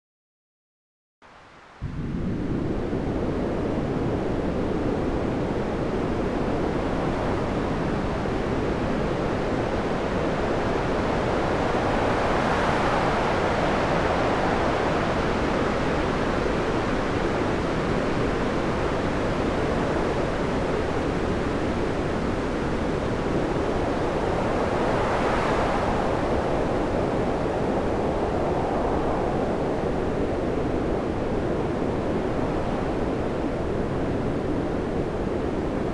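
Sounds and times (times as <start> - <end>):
wind: 1.2 - 35.9
waves rushing and breaking: 1.8 - 35.9.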